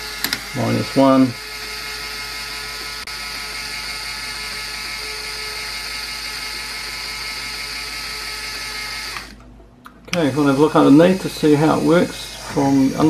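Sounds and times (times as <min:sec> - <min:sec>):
motor and plastic gears whirring: 0:00.0 - 0:09.5, 0:10.1 - 0:13.0.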